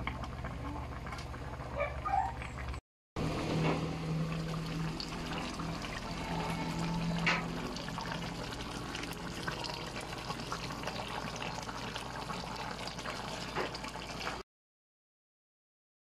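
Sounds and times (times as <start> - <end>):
sauce bubbling in a wok: 0.0 - 14.4.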